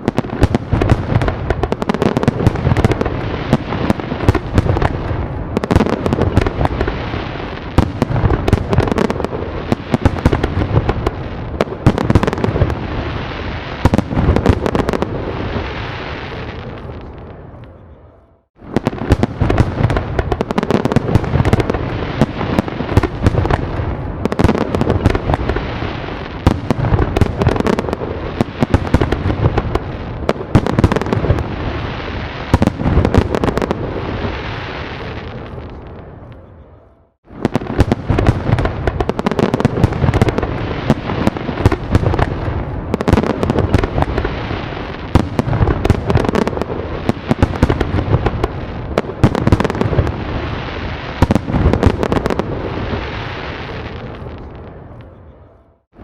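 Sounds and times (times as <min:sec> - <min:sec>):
fireworks cracks and bangs: 0:00.0 - 0:17.6, 0:18.6 - 0:36.1, 0:37.2 - 0:55.0.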